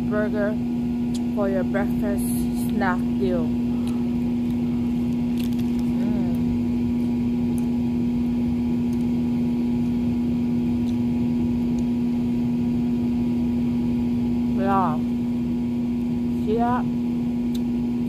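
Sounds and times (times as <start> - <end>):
loud steady low hum: 0.0 - 18.0.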